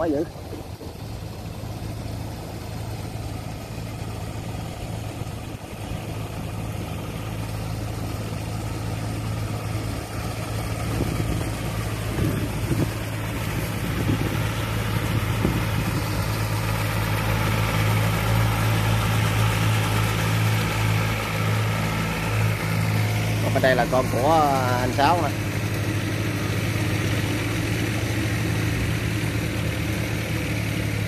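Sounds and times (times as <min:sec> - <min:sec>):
walking tractor engine running: 0:00.0 - 0:31.0.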